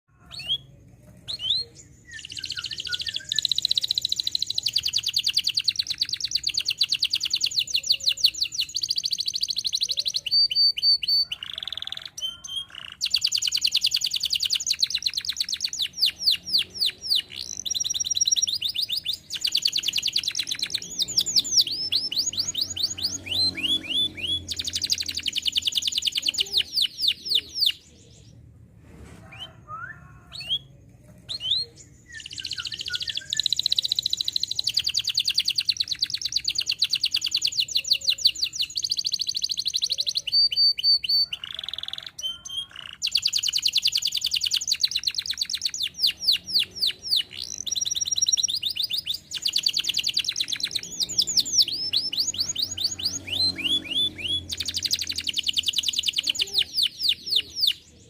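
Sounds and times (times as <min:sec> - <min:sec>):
canary singing trills: 0:00.1 - 0:28.5, 0:29.3 - 0:58.0.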